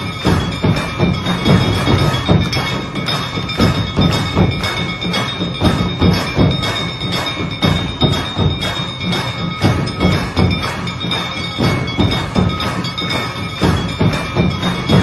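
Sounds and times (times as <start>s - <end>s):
music with percussive beat: 0.0s - 15.0s.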